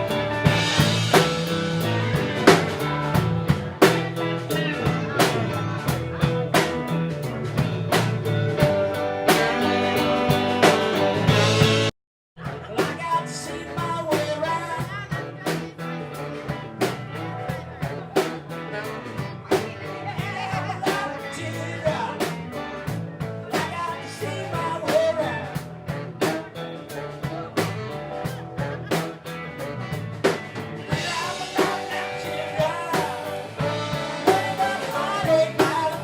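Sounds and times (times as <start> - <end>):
drums keeping a beat: 0.0 - 36.0
guitar: 0.0 - 36.0
live band playing: 0.0 - 36.0.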